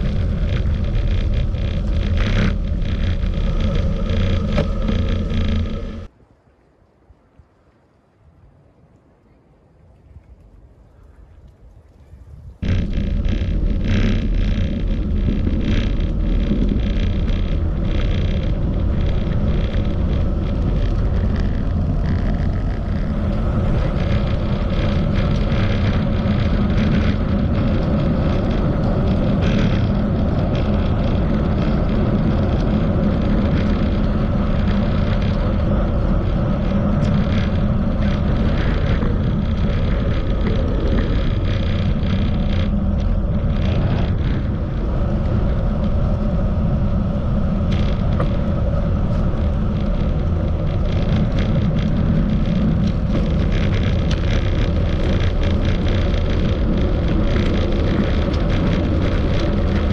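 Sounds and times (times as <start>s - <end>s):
bike clicks and rattles: 0.0s - 6.1s, 12.0s - 59.9s
wind rush over microphone: 0.0s - 6.1s, 10.0s - 59.9s
bicycle tyre and road noise: 0.0s - 59.9s.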